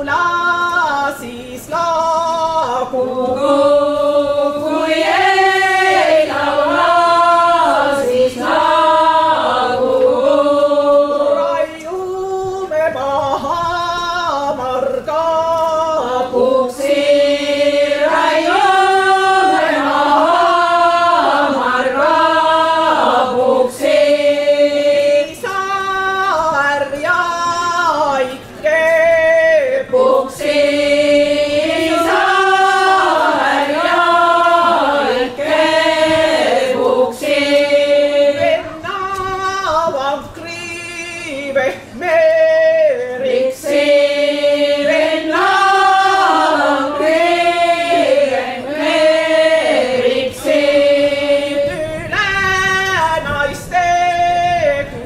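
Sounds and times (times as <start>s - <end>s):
vocal group singing in harmony: 0.0s - 55.0s.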